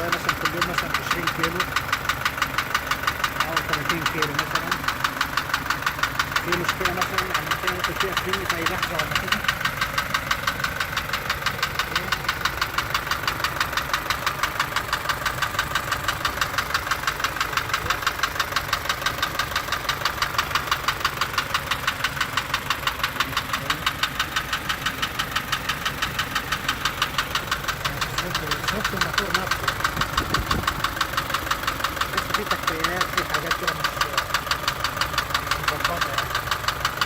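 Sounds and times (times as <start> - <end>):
truck engine idling with ticking: 0.0 - 37.0.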